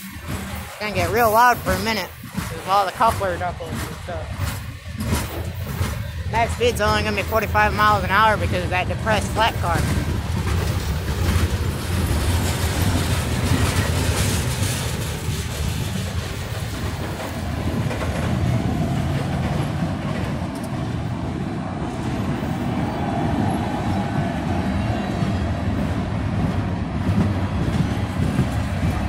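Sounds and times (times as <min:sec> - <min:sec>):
train cars clanking: 0:00.0 - 0:29.0
train wheels rumbling on rail: 0:00.0 - 0:29.0.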